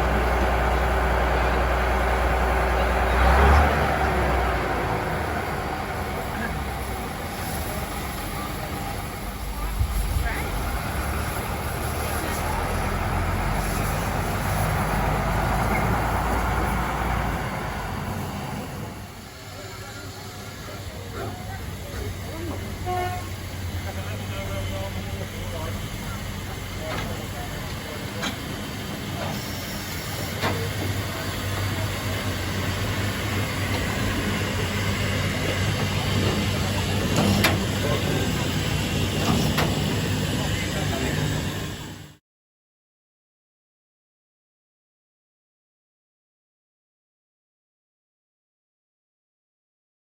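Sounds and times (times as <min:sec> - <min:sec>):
train rumbling: 0:00.0 - 0:42.2.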